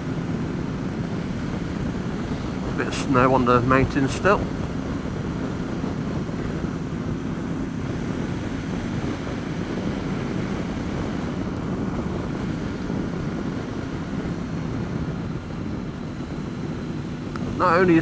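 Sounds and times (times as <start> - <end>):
motorcycle engine drone: 0.0 - 18.0
wind noise: 0.0 - 18.0.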